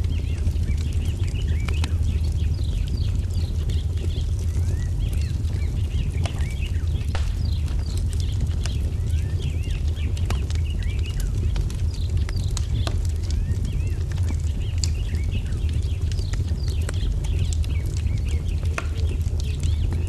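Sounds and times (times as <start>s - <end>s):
low rumble: 0.0s - 20.0s
small birds chirping: 0.0s - 20.0s
wood fire crackling: 0.0s - 20.0s.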